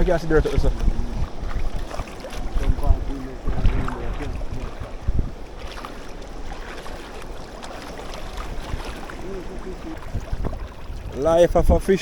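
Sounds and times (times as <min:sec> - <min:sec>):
water sloshing: 0:00.0 - 0:12.0
wind on microphone: 0:00.0 - 0:12.0.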